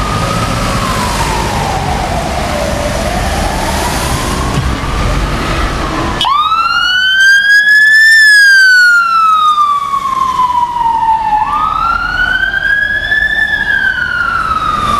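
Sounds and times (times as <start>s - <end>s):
ambulance siren wailing: 0.0s - 14.9s
faint siren wail: 0.0s - 14.9s
low traffic rumble: 0.0s - 14.9s.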